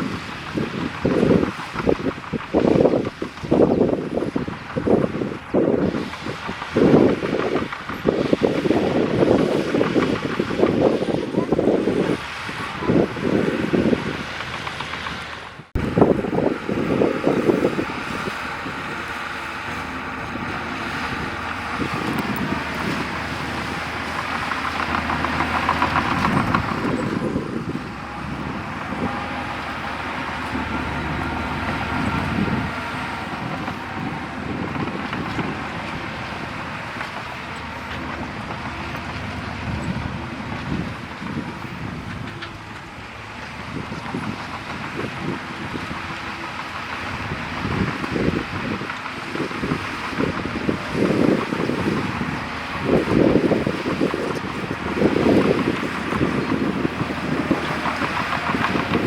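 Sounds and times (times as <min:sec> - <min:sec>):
bulldozer pushing soil: 0:00.0 - 0:59.0.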